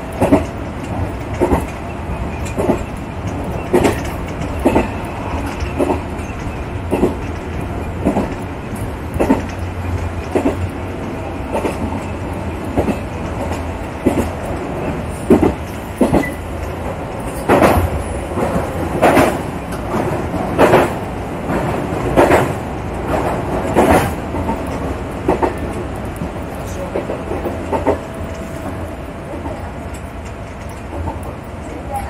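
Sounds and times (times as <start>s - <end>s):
train rumbling: 0.0s - 32.0s
train wheels clacking: 0.0s - 32.0s.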